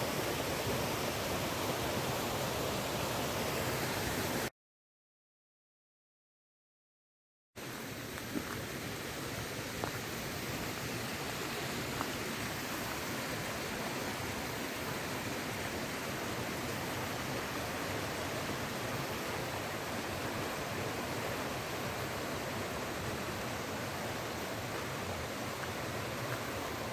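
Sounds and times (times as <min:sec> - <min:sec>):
running water rushing: 0:00.0 - 0:04.5, 0:07.6 - 0:26.9.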